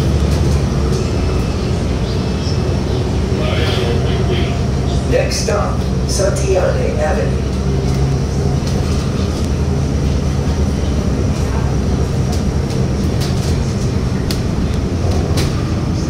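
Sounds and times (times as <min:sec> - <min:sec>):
bus engine hum and rumble: 0:00.0 - 0:16.0
road noise: 0:00.0 - 0:16.0.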